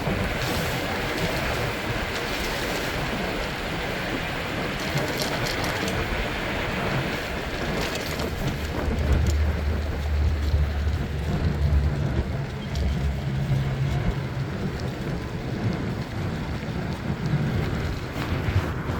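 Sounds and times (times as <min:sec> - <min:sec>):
deep wind rumble: 0:00.0 - 0:18.9
wind on microphone: 0:00.0 - 0:18.9.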